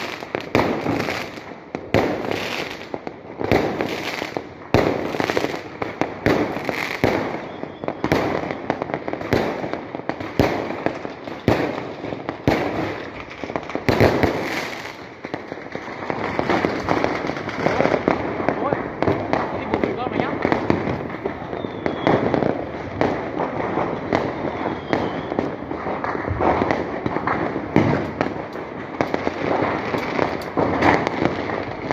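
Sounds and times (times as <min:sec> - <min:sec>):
fireworks banging and crackling: 0:00.0 - 0:31.9.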